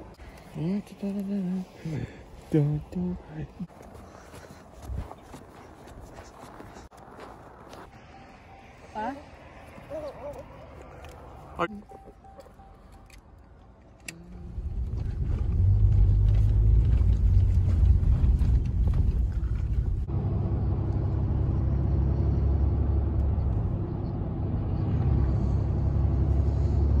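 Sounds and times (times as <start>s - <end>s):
truck engine and road noise: 0.0s - 27.0s.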